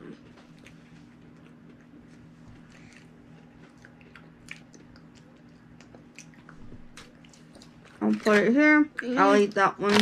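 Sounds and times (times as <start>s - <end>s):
faint chewing: 0.0s - 8.3s.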